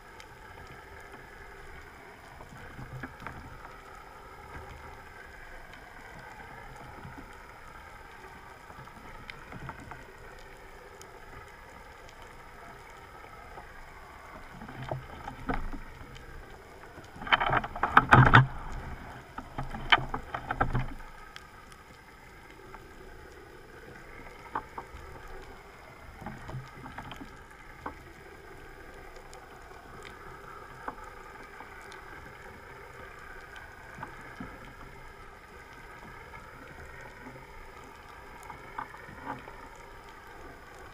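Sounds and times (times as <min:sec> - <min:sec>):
faint underwater motor hum: 0:00.0 - 0:40.9.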